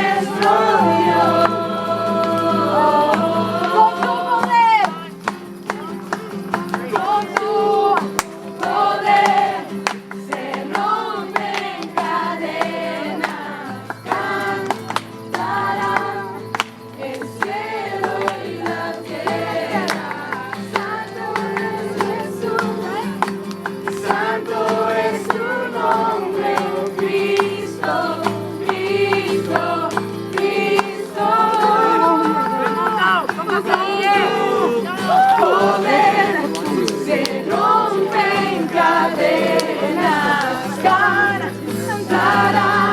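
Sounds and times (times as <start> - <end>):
group singing worship song: 0.0 - 42.9
held accompanying chords: 0.0 - 42.9.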